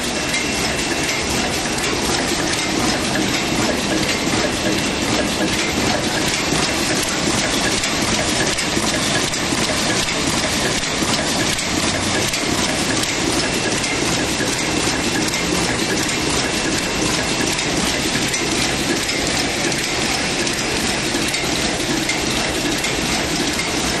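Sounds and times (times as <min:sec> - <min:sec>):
bagging machine clattering: 0:00.0 - 0:24.0.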